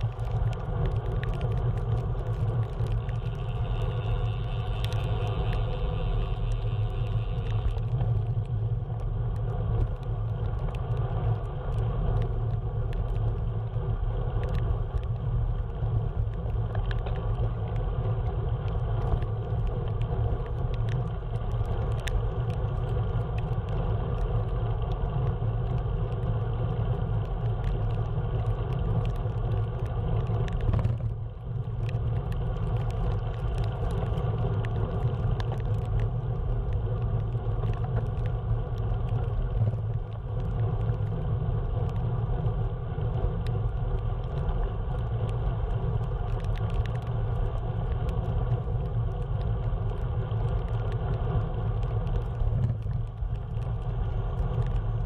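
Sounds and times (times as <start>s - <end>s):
road vehicle rumble: 0.0s - 55.0s.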